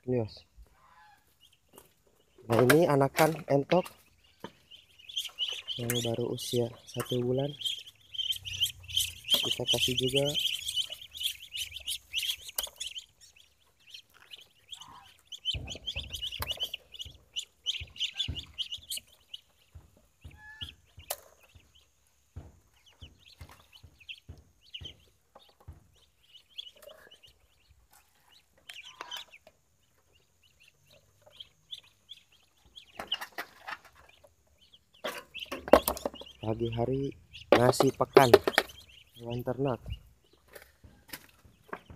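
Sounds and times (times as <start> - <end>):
ducklings peeping: 0.1 - 41.9
bills pecking at feed trough: 0.7 - 41.9.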